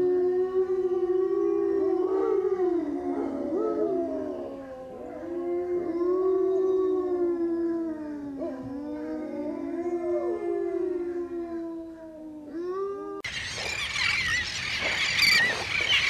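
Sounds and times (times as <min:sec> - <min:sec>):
wolves howling: 0:00.0 - 0:13.3.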